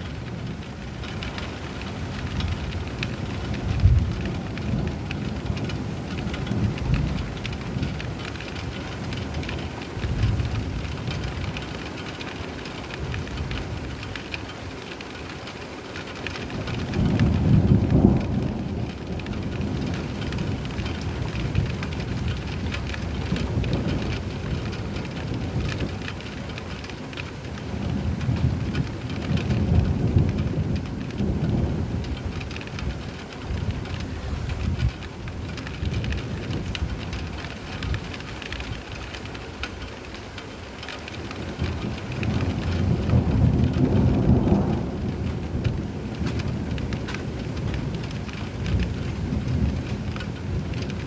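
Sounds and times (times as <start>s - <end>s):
rolling thunder: 0.0s - 14.1s, 16.3s - 39.2s, 41.1s - 51.0s
steady rain falling: 0.0s - 51.0s.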